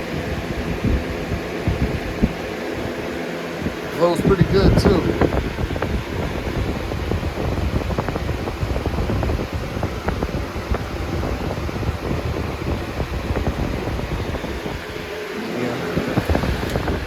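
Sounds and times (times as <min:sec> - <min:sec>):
box fan running: 0:00.0 - 0:17.0
fan rattling clicks: 0:00.0 - 0:17.0.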